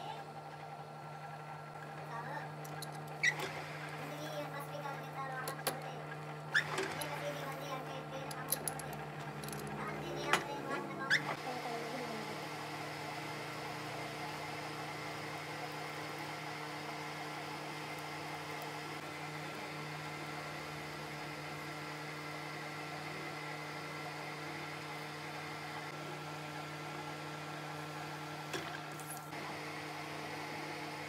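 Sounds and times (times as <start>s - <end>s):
metal lathe humming: 0.0s - 31.0s.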